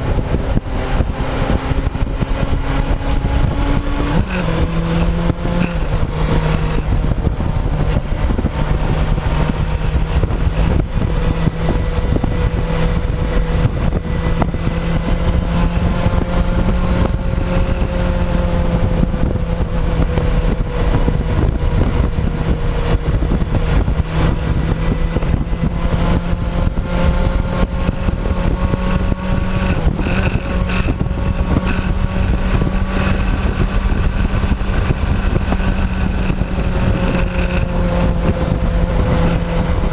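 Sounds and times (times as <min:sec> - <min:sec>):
motorcycle engine cruising: 0:00.0 - 0:39.9
road rumble: 0:00.0 - 0:39.9
wind noise on microphone: 0:00.0 - 0:39.9.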